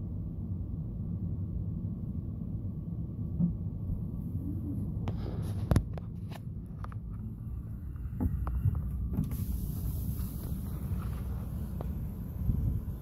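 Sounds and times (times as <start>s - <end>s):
car engine rumble in traffic: 0.0s - 13.0s.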